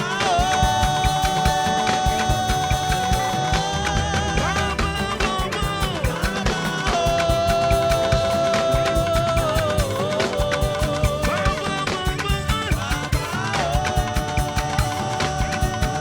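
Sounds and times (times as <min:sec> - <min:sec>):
fast drum beat: 0:00.0 - 0:16.0
gospel band music: 0:00.0 - 0:16.0.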